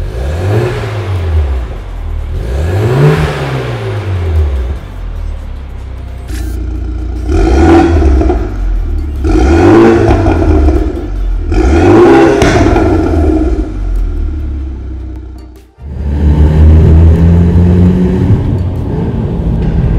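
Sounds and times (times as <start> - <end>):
car engine idling: 0.0 - 19.9
car engine revving: 0.0 - 19.9.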